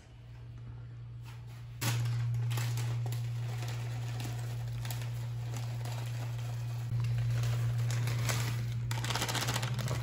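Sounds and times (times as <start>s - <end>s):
steady low hum: 0.0s - 10.0s
plastic bag crinkling: 1.8s - 10.0s.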